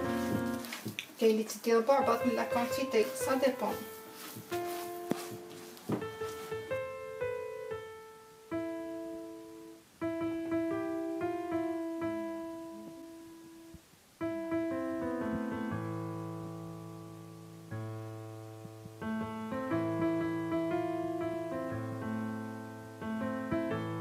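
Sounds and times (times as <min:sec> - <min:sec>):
slow piano music: 0:00.0 - 0:01.0, 0:01.6 - 0:24.0.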